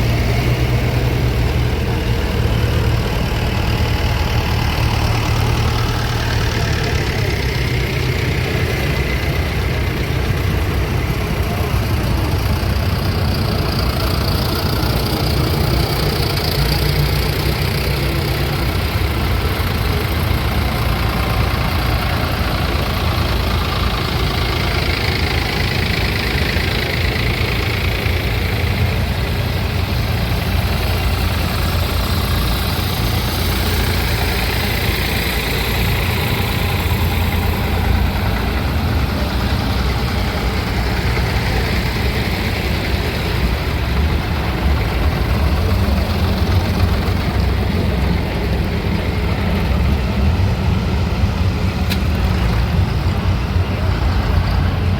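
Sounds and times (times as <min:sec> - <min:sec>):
engine idling: 0:00.0 - 0:54.9.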